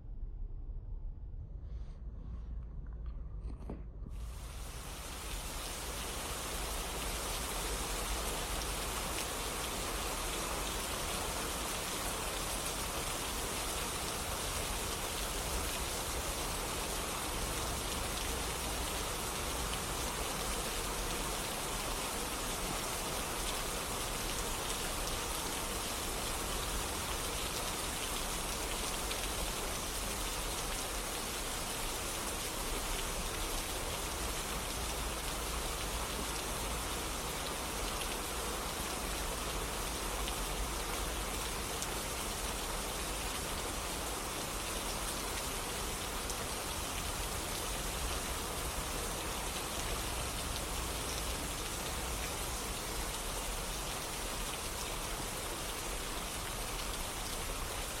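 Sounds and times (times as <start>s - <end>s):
rain pattering: 4.1s - 58.0s.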